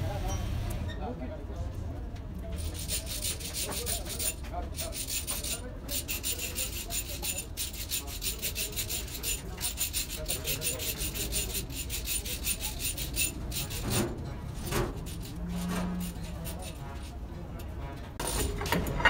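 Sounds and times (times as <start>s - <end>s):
hand scrubbing metal part: 2.6s - 19.0s.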